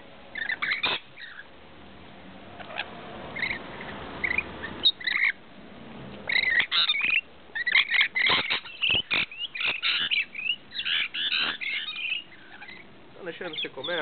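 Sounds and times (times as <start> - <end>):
lorikeets chattering and screeching: 0.3 - 1.5, 2.6 - 5.4, 6.3 - 14.0.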